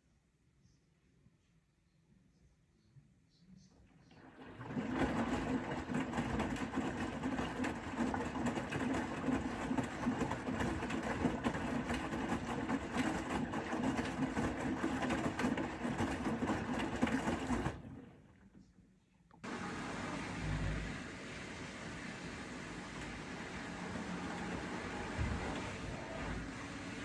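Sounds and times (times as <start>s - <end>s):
washing machine motor whirring: 4.1s - 18.6s, 19.4s - 27.0s.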